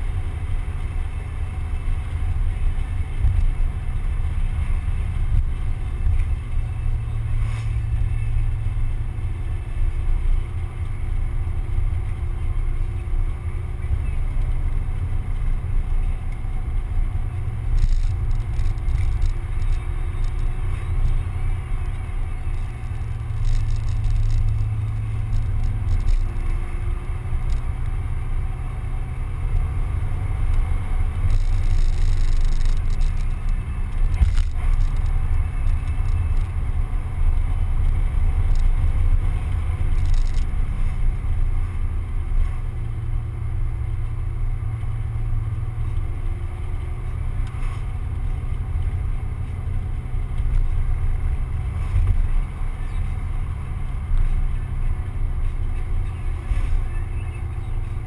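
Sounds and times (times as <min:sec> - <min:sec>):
car engine: 0:00.0 - 0:58.0
wind and road noise: 0:00.0 - 0:58.0.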